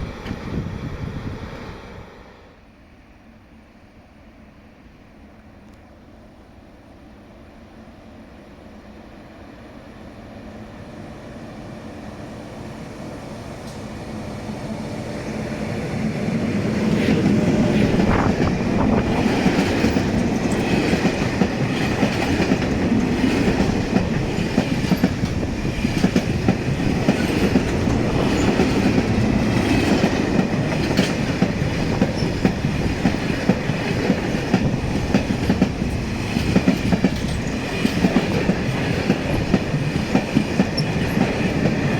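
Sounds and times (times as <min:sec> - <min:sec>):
freight train passing: 0:00.0 - 0:41.9.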